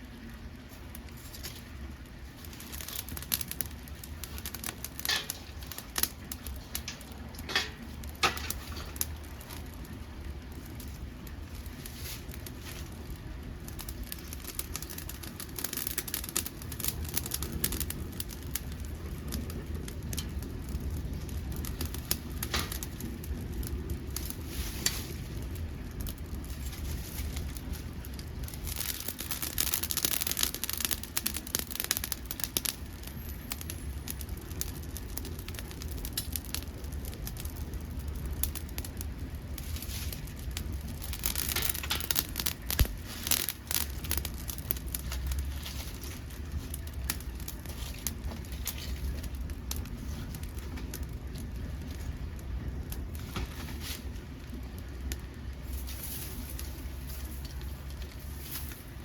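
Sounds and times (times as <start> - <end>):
steady low rumble: 0.0 - 59.0
wood crackling and popping in stove: 0.0 - 59.0.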